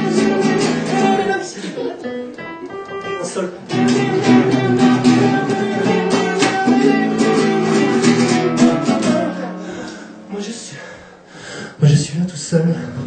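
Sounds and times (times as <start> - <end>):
acoustic guitar strumming chords: 0.0 - 10.6.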